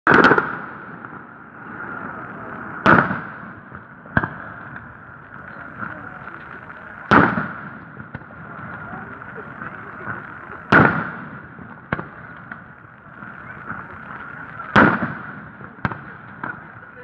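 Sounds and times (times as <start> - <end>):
firework shells booming: 0.1 - 17.0
sharp firework crack: 0.1 - 17.0.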